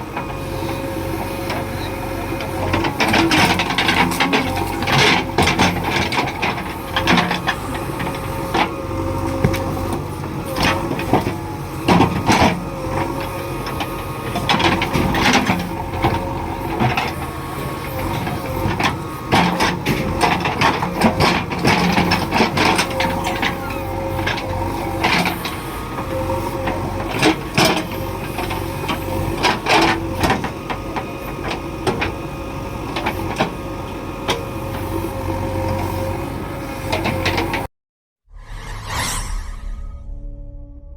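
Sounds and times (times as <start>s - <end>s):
diesel engine running: 0.0s - 37.6s
constant machine whine: 0.0s - 37.7s.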